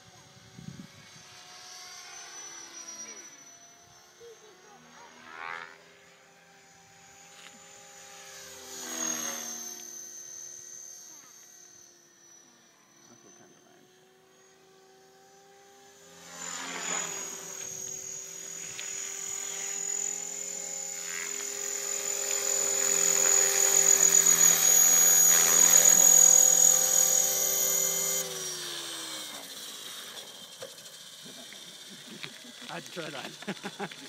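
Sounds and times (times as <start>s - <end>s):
rc helicopter rotors and motor whine: 0.0s - 34.0s.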